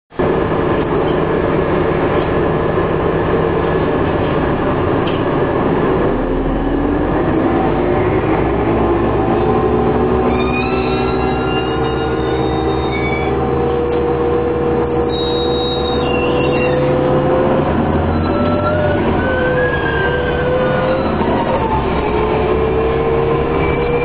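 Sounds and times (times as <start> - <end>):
bus engine running: 0.1 - 24.0.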